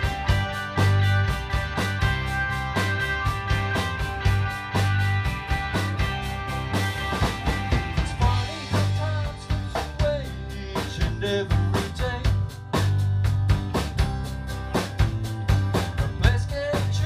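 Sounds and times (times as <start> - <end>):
drum kit beat: 0.0 - 17.0
rock band playing: 0.0 - 17.0.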